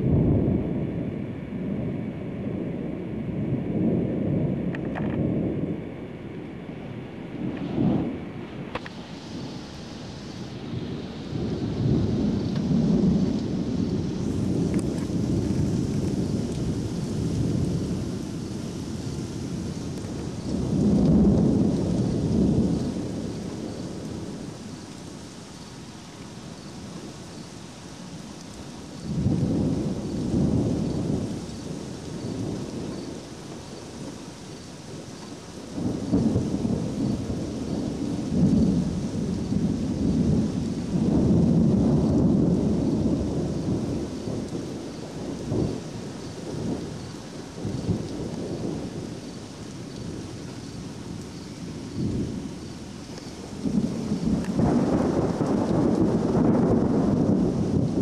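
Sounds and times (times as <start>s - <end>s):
thunder rumbling: 0.0s - 58.0s
rain hissing: 4.7s - 58.0s.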